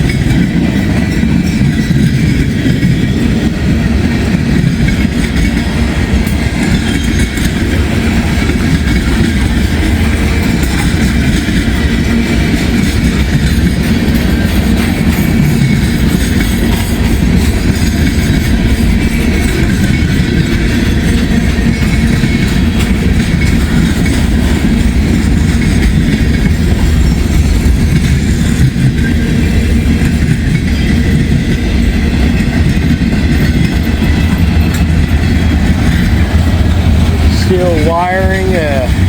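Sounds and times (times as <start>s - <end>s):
freight train cars rolling past: 0.0s - 39.0s.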